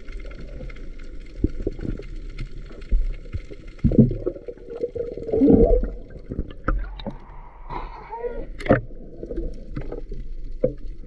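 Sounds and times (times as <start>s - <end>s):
water gurgling underwater: 0.0s - 11.0s.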